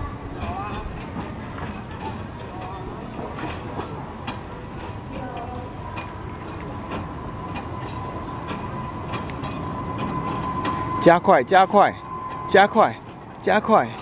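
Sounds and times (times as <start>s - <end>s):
faint steady whine: 0.0s - 14.0s
rail joint clicks: 0.0s - 14.0s
wheels rumbling on rail: 0.0s - 14.0s.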